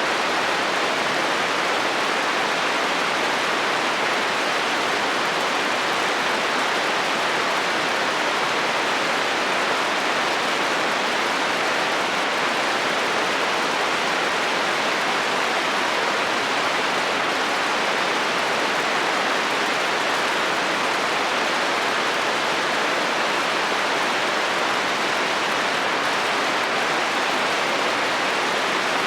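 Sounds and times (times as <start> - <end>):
heavy rain on a metal roof: 0.0 - 29.0.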